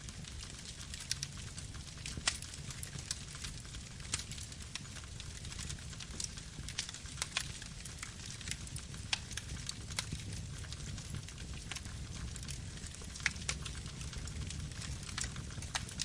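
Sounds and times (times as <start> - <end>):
campfire crackles and pops: 0.0 - 16.0
fire rumble and hiss: 0.0 - 16.0.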